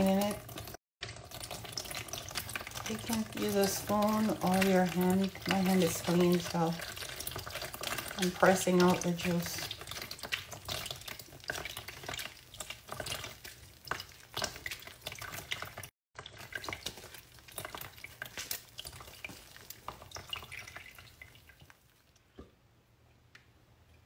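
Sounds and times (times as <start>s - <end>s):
wet squelching through strainer: 0.0s - 22.3s
juice dripping into plastic tub: 0.0s - 22.6s.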